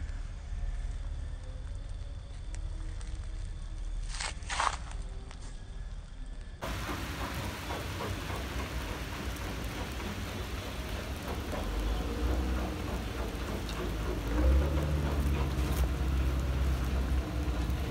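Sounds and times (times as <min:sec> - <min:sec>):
rain on grass and leaves: 0:00.0 - 0:05.5, 0:06.3 - 0:17.9
low rumble: 0:00.0 - 0:17.9.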